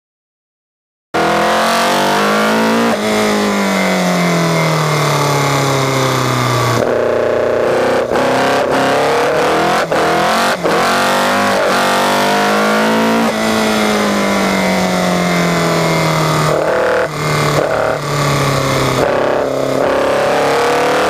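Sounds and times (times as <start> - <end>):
car engine accelerating hard: 1.2 - 21.0.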